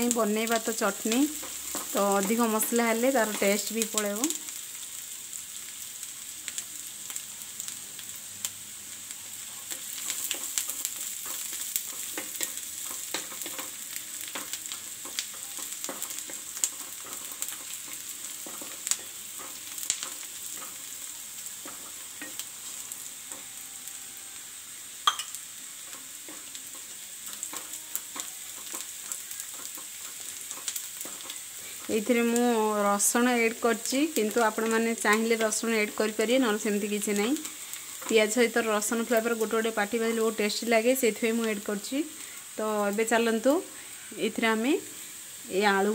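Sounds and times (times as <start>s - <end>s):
vegetables sizzling in oil: 0.0s - 45.9s.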